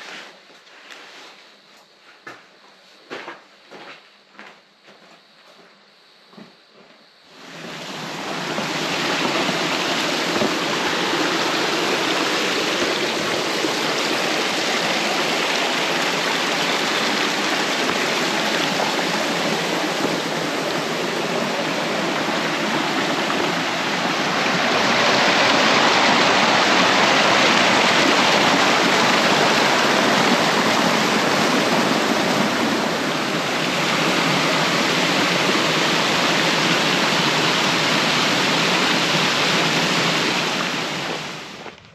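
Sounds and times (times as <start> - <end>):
creek water rushing over rocks: 7.3 - 41.8.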